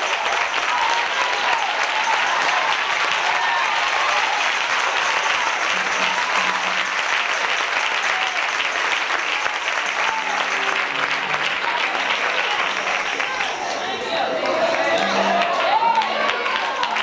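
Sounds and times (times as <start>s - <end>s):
congregation clapping: 0.0s - 17.0s.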